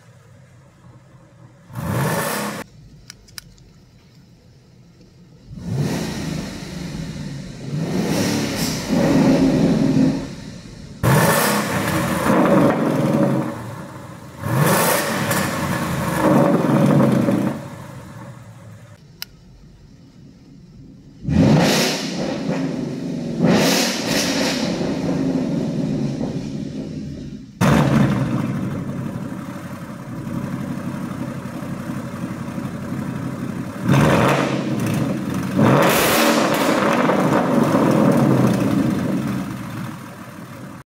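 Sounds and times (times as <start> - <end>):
car engine revving: 0.0 - 2.7, 5.3 - 19.2, 20.9 - 40.8.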